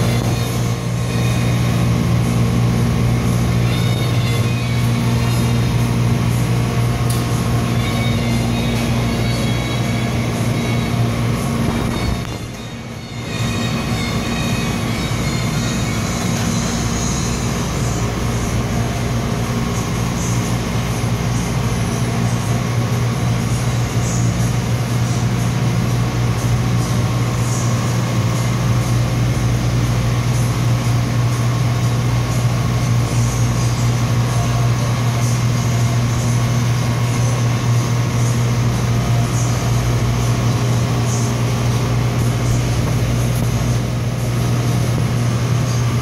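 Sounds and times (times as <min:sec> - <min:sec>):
refrigerated case humming: 0:00.0 - 0:46.0.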